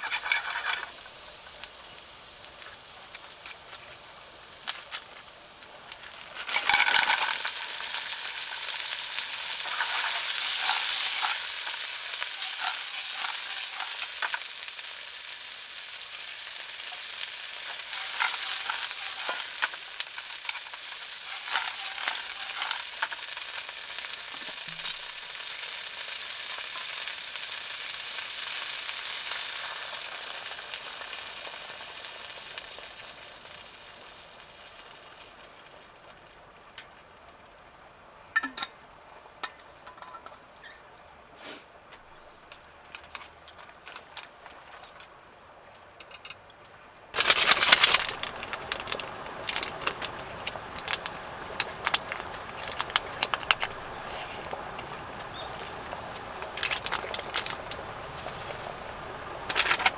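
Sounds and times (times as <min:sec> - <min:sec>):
food sizzling in a pan: 0:00.0 - 0:37.3, 0:47.2 - 0:59.9.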